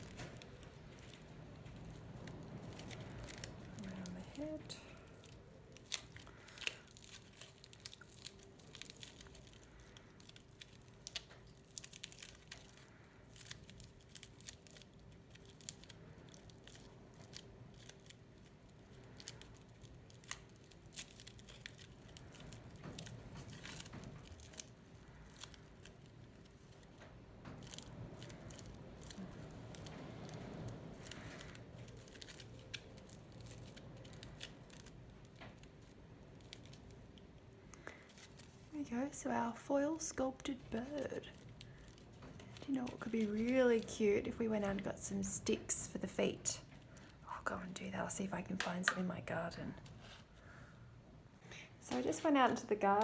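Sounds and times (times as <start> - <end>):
aluminium foil crinkling: 0.0 - 50.7, 51.5 - 53.0.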